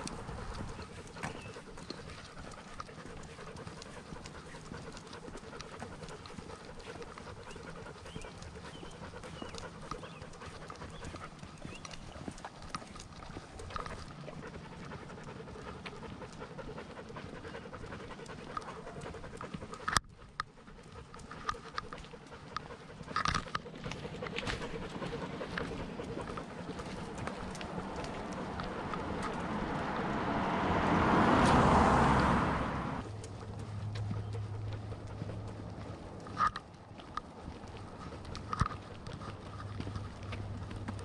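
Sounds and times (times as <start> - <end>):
dog panting: 0.0 - 41.0.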